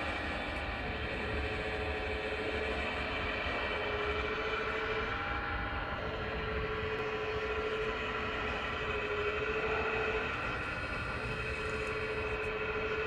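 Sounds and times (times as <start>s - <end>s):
model excavator electric whine: 0.0s - 13.0s.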